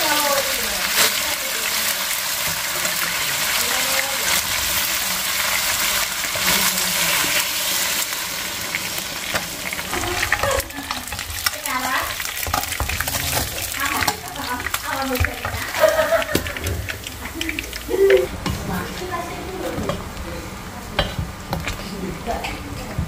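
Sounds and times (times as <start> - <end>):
food sizzling in hot oil: 0.0 - 19.2
fish frying in oil: 0.0 - 19.6.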